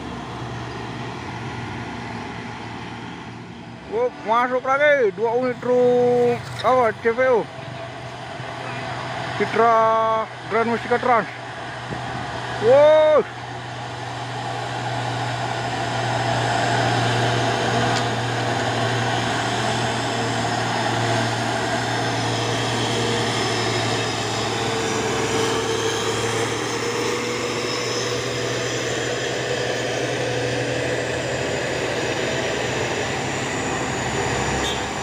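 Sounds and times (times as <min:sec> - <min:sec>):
heavy diesel trucks driving uphill: 0:00.0 - 0:35.0.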